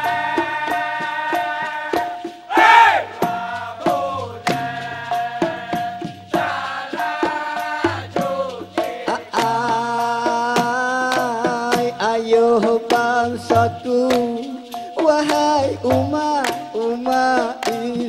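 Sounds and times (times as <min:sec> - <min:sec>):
male voices singing lead and chorus: 0:00.0 - 0:18.0
percussion hits: 0:00.0 - 0:18.0
rhythmic hand claps: 0:00.0 - 0:18.0.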